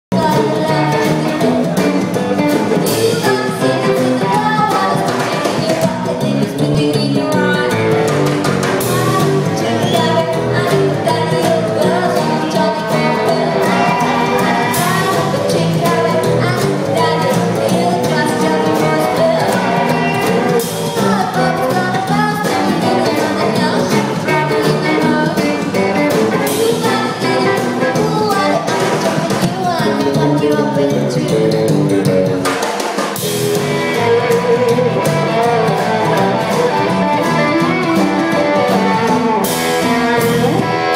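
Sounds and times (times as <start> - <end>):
woman singing: 0.1 - 2.0, 2.7 - 32.0, 33.5 - 40.8
slapped upright bass: 0.1 - 32.6, 33.2 - 40.9
drum kit beat: 0.1 - 40.9
electric guitar: 0.1 - 40.9.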